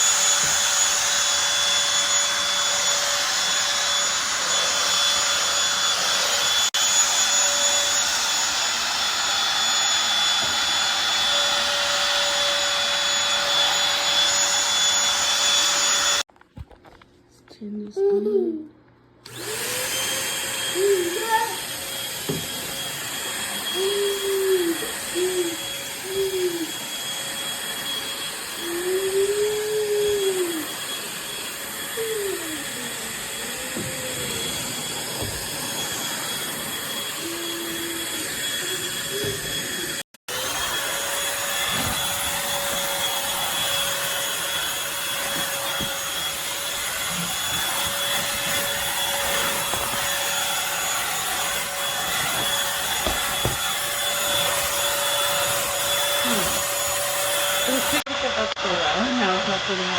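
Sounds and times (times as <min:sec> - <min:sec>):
stick vacuum whining: 0:00.0 - 0:16.2, 0:19.2 - 0:59.9.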